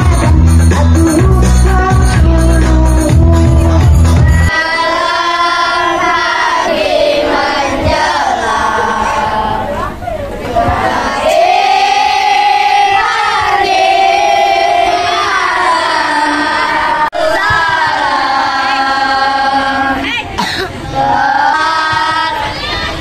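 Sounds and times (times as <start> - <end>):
children's choir singing: 0.0 - 23.0.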